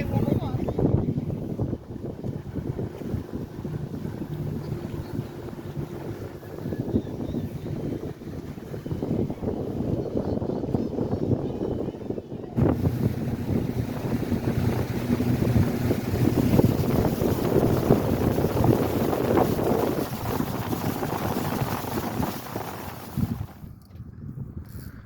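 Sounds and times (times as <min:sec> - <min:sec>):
boat motor running: 0:00.0 - 0:23.7
wind buffeting microphone: 0:00.0 - 0:25.0.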